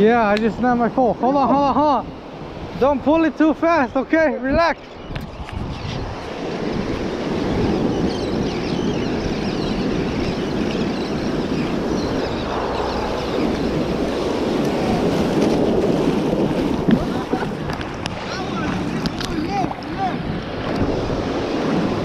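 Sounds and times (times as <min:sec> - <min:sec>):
ocean surf breaking: 0:00.0 - 0:04.7, 0:06.0 - 0:22.0
wind buffeting microphone: 0:00.0 - 0:22.0.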